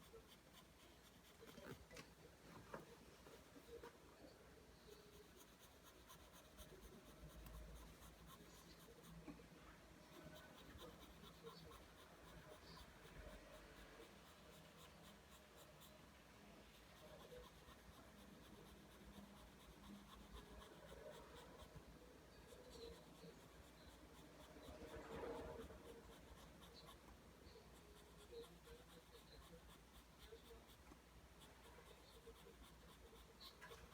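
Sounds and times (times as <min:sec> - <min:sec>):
pencil scratching on paper: 0:00.0 - 0:02.0, 0:04.8 - 0:33.9.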